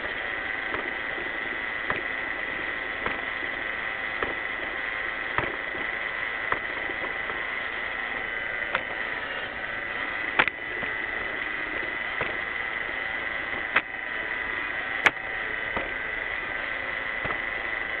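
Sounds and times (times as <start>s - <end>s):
robot vacuum whirring: 0.0s - 18.0s.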